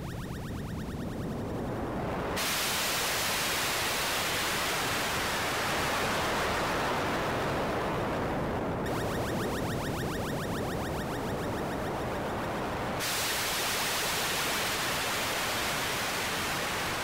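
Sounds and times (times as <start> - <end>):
white noise wash: 0.0 - 17.0.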